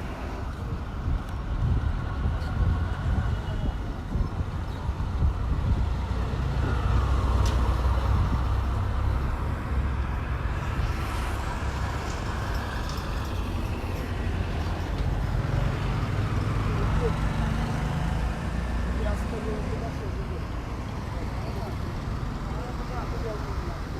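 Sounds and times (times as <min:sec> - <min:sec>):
motor engine rumbling: 0:00.0 - 0:23.9
road or water noise: 0:00.0 - 0:23.9.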